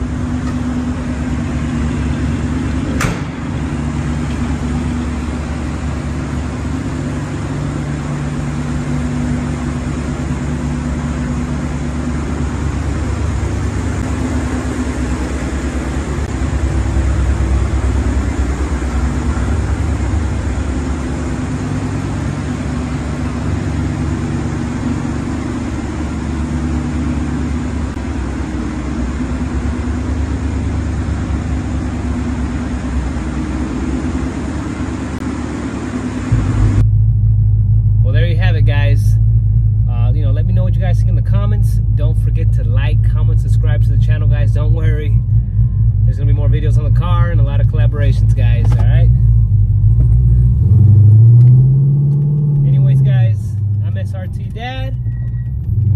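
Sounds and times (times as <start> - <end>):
pickup truck engine running: 0.0 - 55.9.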